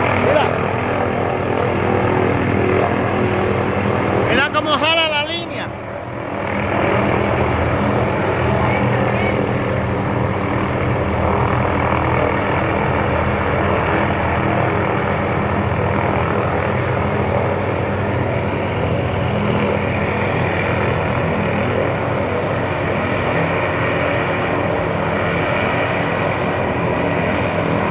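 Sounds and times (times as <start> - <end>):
helicopter engine and rotor: 0.0 - 27.9.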